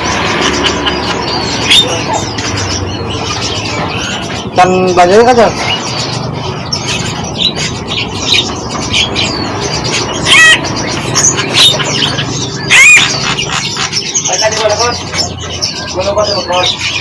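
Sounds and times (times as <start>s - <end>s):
loud bird calls: 0.0s - 17.0s
songbirds chirping and whistling: 0.0s - 17.0s.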